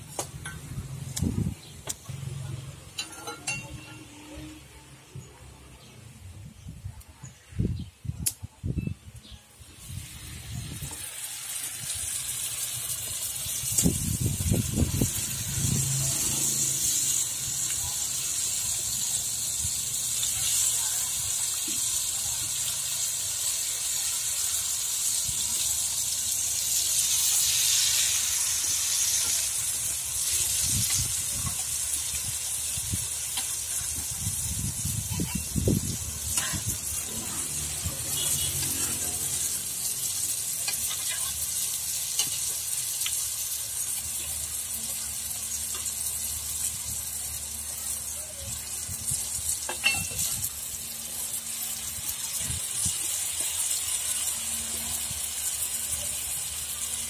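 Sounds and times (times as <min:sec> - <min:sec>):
batter sizzling in hot oil: 0:00.0 - 0:06.2, 0:09.2 - 0:57.0.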